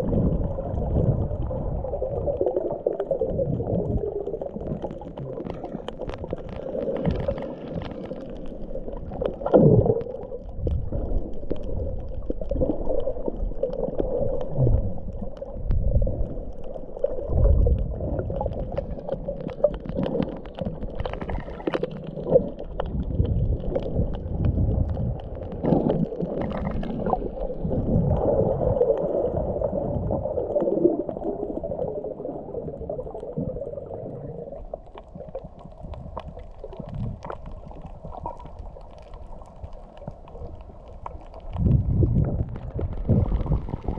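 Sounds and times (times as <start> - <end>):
small clicks underwater: 0.0 - 43.9
water sloshing underwater: 0.0 - 43.9.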